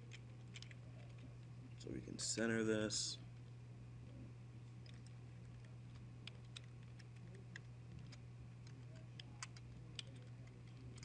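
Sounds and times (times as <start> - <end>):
faint keyboard typing: 0.0 - 1.9, 3.3 - 11.0
low electrical hum: 0.0 - 11.0.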